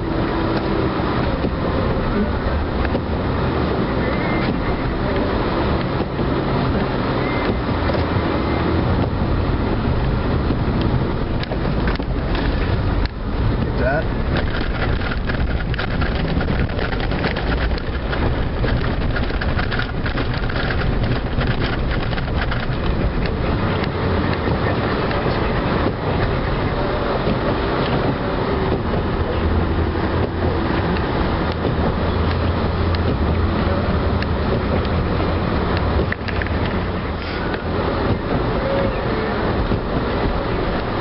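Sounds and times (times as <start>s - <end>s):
snowplow rumbling and clattering: 0.0s - 41.0s
truck engine droning: 0.0s - 41.0s.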